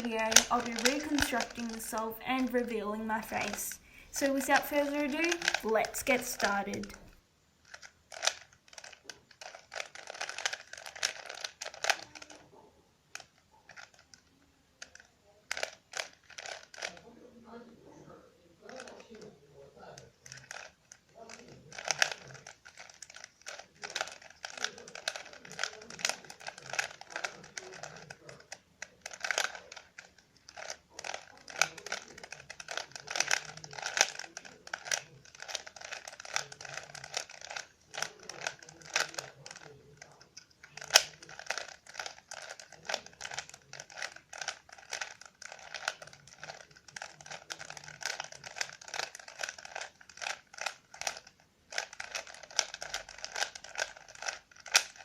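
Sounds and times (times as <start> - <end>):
plastic puzzle cube clicking: 0.0 - 12.5, 13.1 - 17.1, 18.6 - 55.0.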